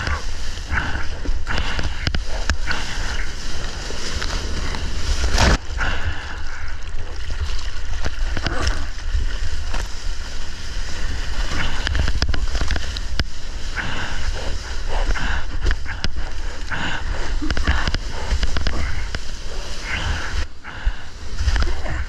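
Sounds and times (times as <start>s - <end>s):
low rumble: 0.0s - 22.0s
water rushing and splashing: 0.0s - 22.0s.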